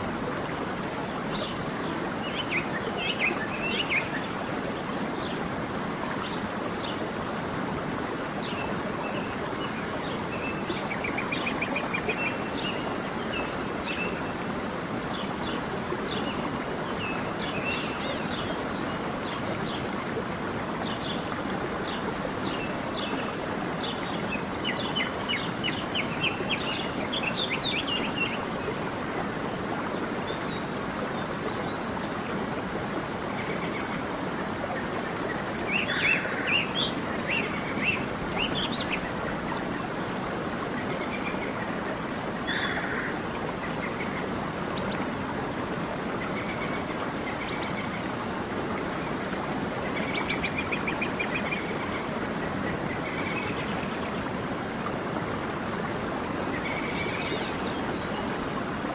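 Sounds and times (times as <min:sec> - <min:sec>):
creek running: 0:00.0 - 0:58.9.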